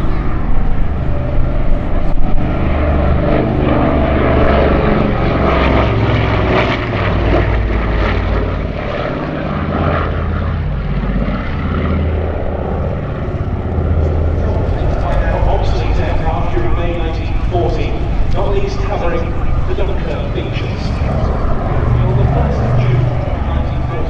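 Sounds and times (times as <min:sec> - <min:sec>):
radial aircraft engines and propellers: 0:00.0 - 0:24.0.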